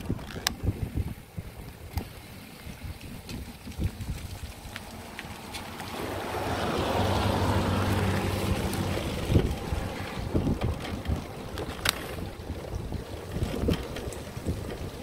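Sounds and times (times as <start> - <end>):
wind buffeting microphone: 0.0 - 15.0
tyres rushing on wet road: 1.7 - 15.0
car engine hum: 1.8 - 15.0.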